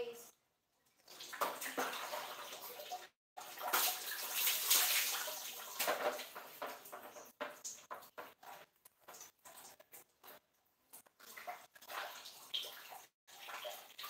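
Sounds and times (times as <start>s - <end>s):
water splashing onto floor: 1.0s - 14.0s.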